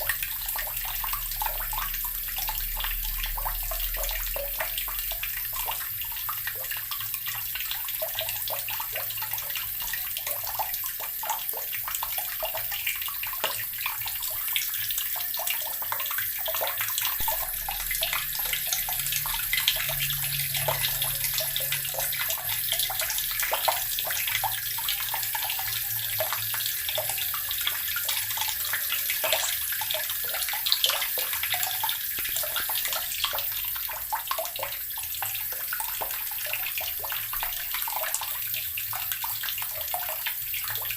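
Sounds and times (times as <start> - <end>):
tap water splashing into basin: 0.0 - 40.9.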